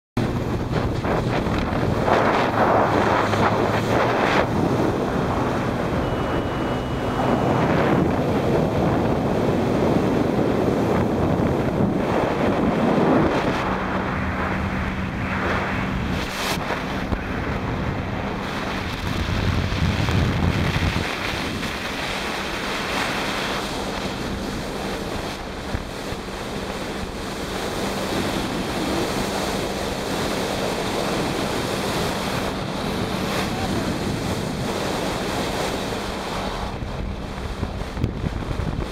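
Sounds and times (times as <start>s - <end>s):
water rushing past: 0.2s - 38.9s
watercraft engine drone: 0.2s - 38.9s
wind buffeting microphone: 0.2s - 38.9s.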